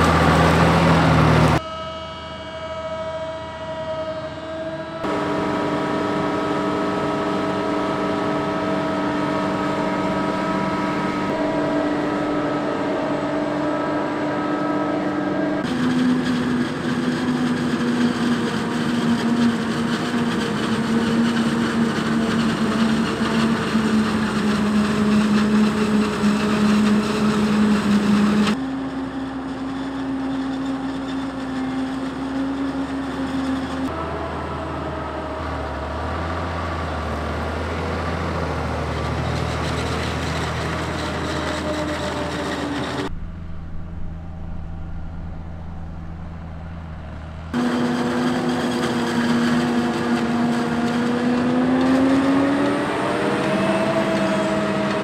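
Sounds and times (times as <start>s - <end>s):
diesel engine humming: 0.0s - 2.4s, 3.6s - 55.0s.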